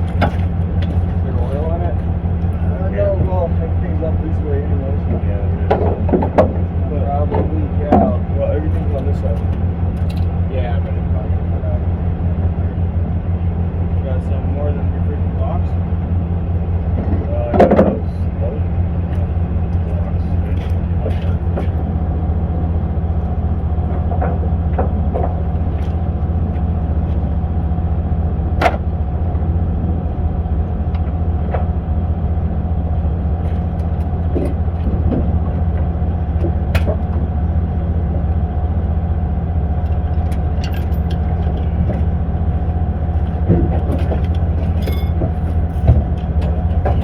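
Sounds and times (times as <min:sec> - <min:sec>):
motor droning: 0:00.0 - 0:47.0.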